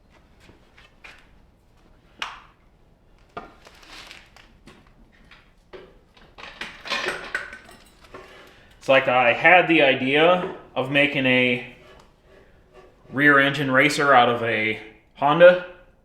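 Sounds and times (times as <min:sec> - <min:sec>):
handling noise: 0:00.1 - 0:14.1.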